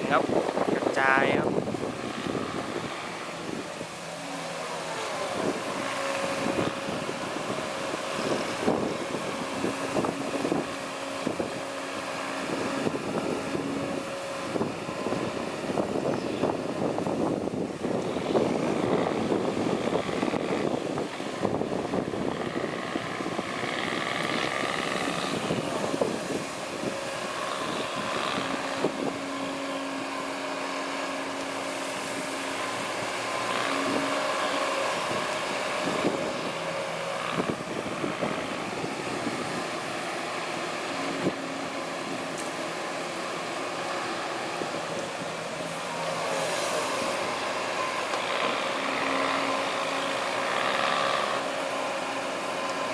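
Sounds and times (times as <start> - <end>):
heavy diesel machinery engine hum: 0.0 - 52.9
knocks and rattles of work: 0.0 - 52.9.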